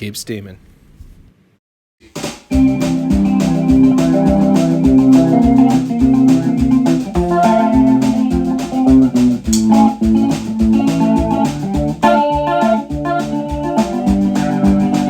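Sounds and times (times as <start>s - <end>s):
music with steady beat: 2.0s - 15.0s.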